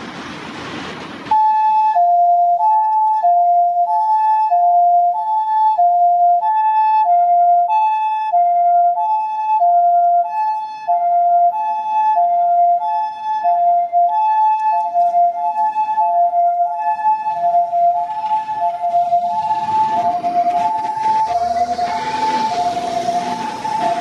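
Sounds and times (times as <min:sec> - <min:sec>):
two-tone ambulance siren: 0:01.3 - 0:24.0.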